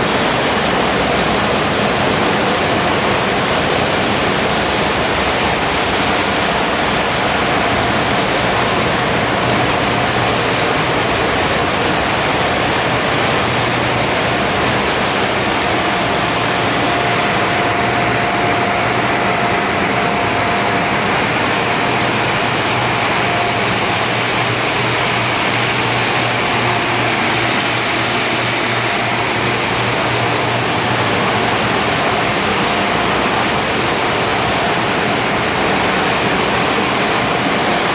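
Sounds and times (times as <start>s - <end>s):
engine-room machinery din: 0.0s - 37.9s
thin steady whine: 2.6s - 37.8s
low hum: 2.7s - 34.4s.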